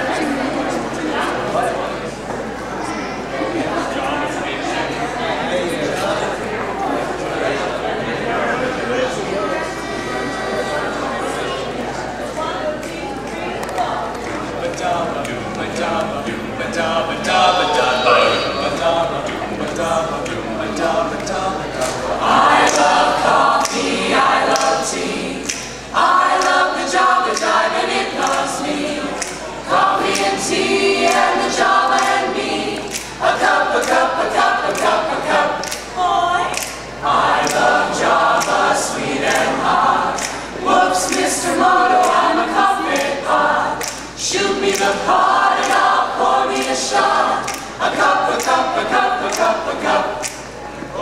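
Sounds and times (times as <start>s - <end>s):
choir singing a cappella: 0.0s - 2.2s, 2.8s - 51.0s.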